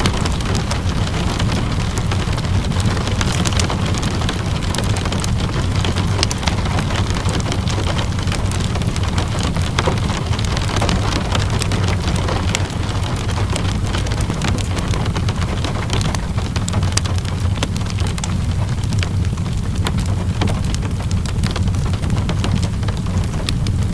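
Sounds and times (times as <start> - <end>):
steady rainfall: 0.0 - 23.9
wood fire crackling: 0.0 - 23.9.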